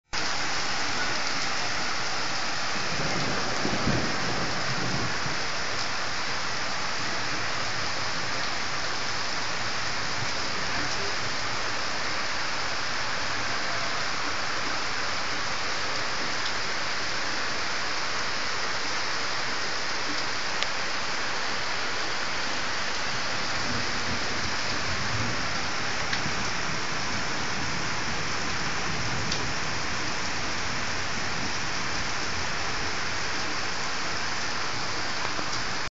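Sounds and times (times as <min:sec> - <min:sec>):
rain falling steadily: 0:00.1 - 0:35.9.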